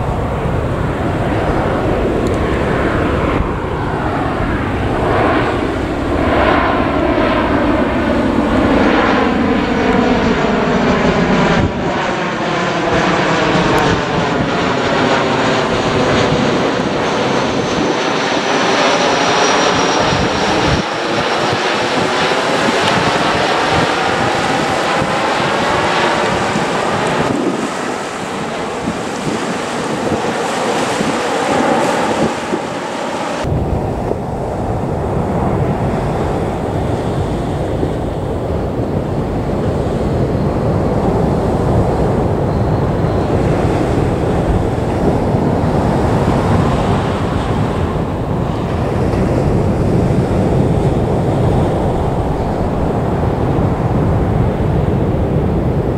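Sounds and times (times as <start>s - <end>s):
jet engines passing overhead: 0.0s - 55.9s
wind buffeting microphone: 0.0s - 55.9s.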